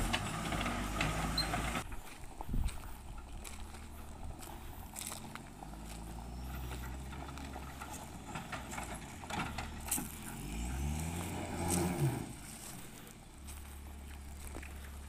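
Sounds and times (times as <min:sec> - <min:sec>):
diesel engine revving: 0:00.0 - 0:02.1, 0:03.2 - 0:15.0.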